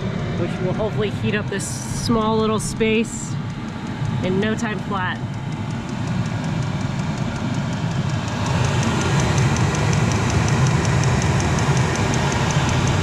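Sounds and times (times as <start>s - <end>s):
diesel heater running: 0.0s - 13.0s
fast even ticking: 1.0s - 13.0s.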